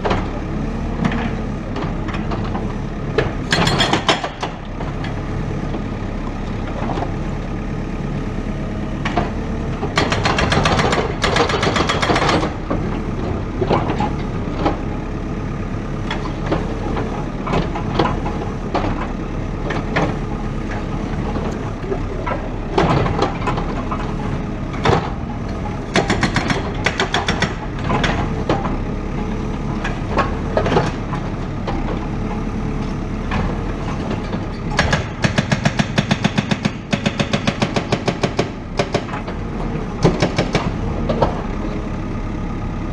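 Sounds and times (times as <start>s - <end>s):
diesel machine engine running: 0.0s - 42.9s.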